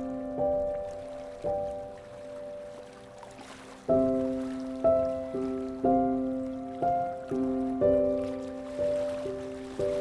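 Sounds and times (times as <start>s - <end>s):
slow relaxation music: 0.0s - 10.0s.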